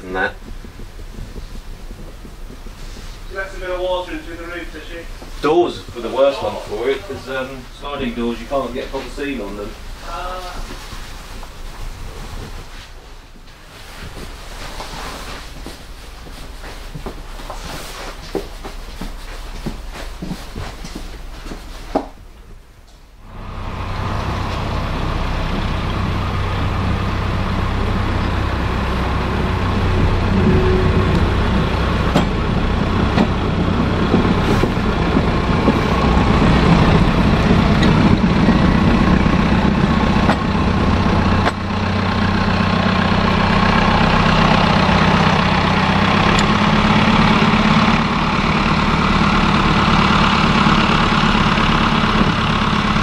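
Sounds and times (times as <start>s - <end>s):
railcar diesel engine running: 0.0s - 53.0s.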